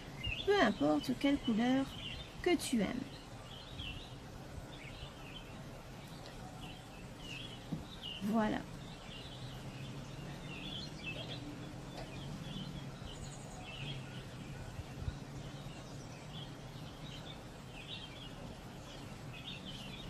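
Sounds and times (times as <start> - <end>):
low steady hum: 0.0 - 20.0
small birds chirping: 0.0 - 20.0.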